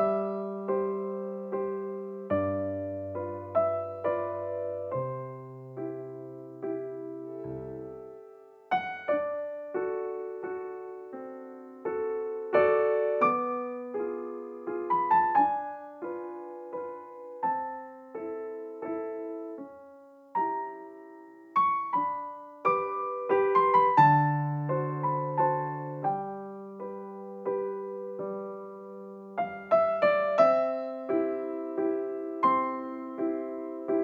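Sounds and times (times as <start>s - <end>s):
gentle piano piece: 0.0s - 34.0s.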